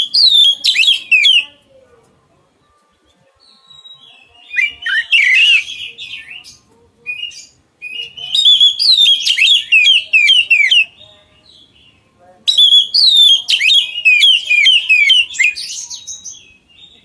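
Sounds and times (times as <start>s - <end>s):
bird singing: 0.0s - 1.6s, 3.1s - 17.0s.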